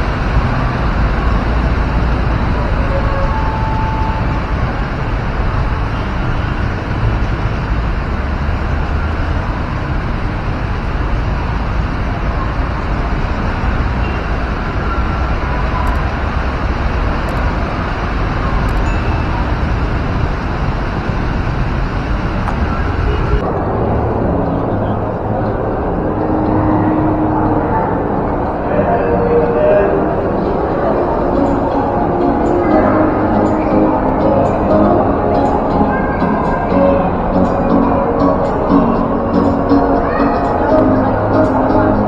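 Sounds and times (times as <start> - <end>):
deep rumble: 0.0 - 42.0.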